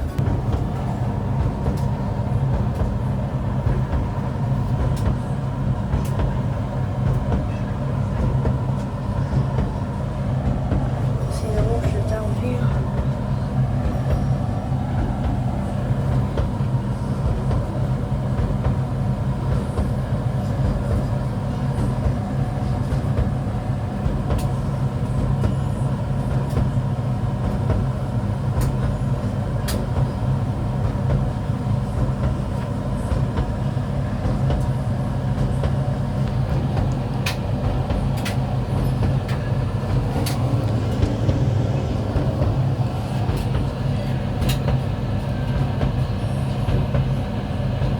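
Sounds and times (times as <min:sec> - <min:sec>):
tumble dryer humming: 0:00.0 - 0:47.9.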